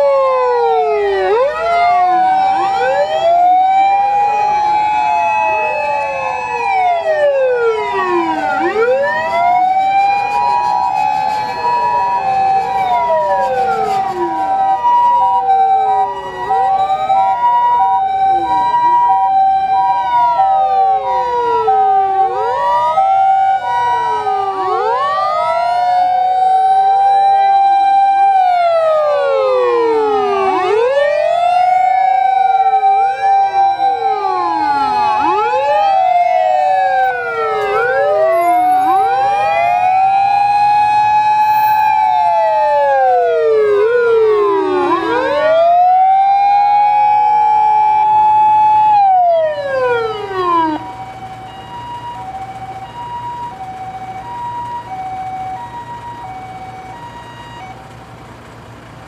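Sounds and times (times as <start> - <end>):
sirens wailing: 0.0 - 59.0
two-tone ambulance siren: 0.0 - 59.0.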